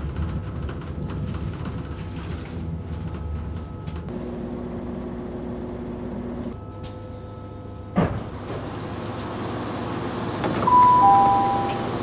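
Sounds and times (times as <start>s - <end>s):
train interior low rumble: 0.0s - 12.0s.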